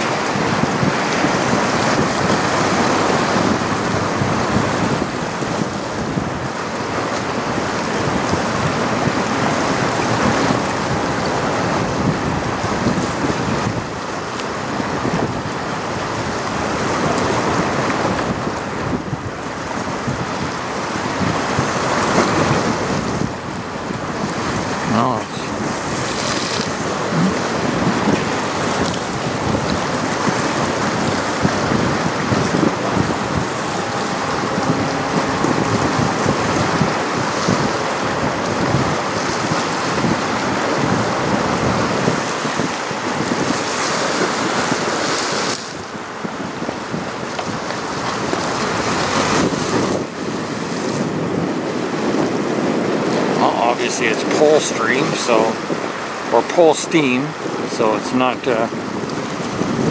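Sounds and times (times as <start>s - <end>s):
river water washing on shore: 0.0s - 59.9s
wind buffeting microphone: 0.0s - 59.9s.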